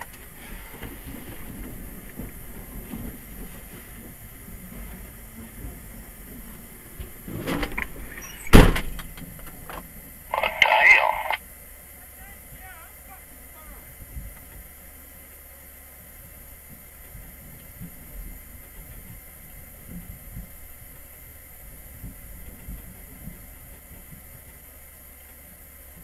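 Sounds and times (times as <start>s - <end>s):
low rumble with hiss: 0.0s - 26.0s.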